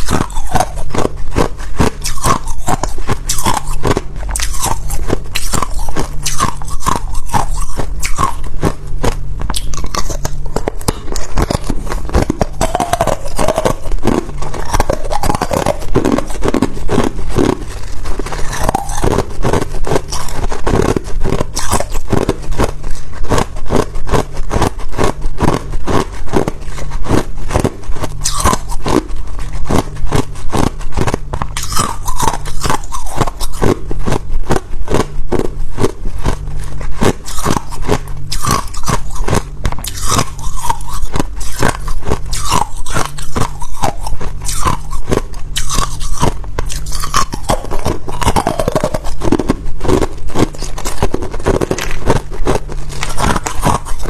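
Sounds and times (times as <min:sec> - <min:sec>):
low steady hum: 0:00.0 - 0:54.0
person chewing ice: 0:00.0 - 0:54.0.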